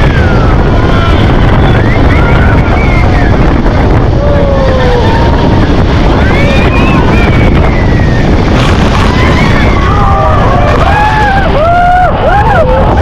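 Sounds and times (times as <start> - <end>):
motorboat running fast: 0.0 - 13.0
wind buffeting the microphone: 0.0 - 13.0.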